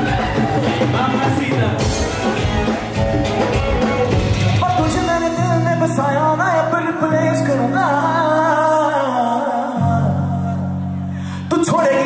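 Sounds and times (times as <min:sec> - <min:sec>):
live band music: 0:00.0 - 0:12.0
man singing: 0:00.0 - 0:12.0.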